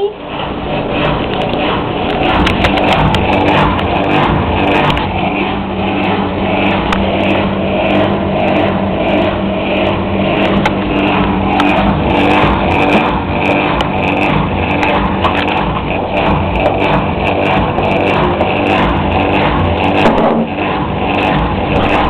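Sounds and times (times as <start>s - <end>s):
vacuum cleaner chugging: 0.0s - 22.0s.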